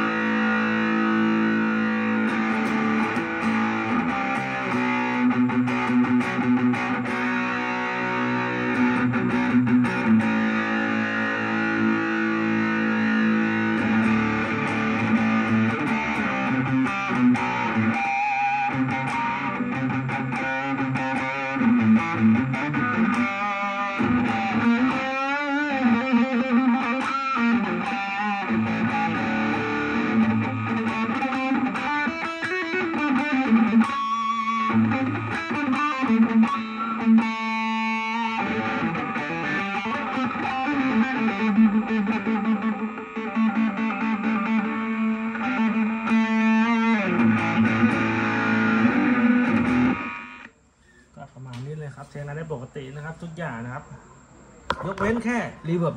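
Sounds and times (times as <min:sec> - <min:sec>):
overdriven electric guitar: 0:00.0 - 0:50.6.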